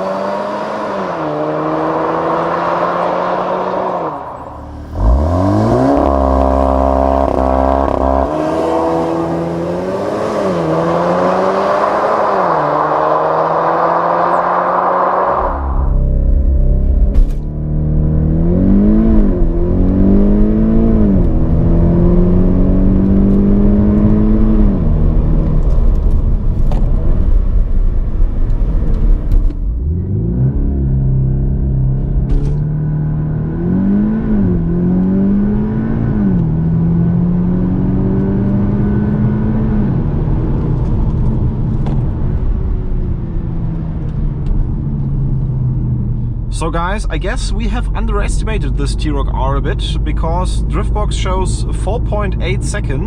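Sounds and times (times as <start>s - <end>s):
car engine accelerating hard: 0.0s - 53.0s
quick gear upshifts: 0.0s - 53.0s.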